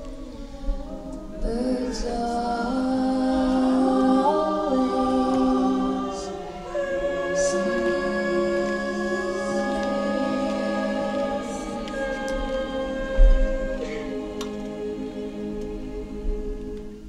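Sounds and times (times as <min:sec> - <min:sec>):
female solo singer: 0:00.0 - 0:16.8
women's choir singing: 0:00.0 - 0:17.0.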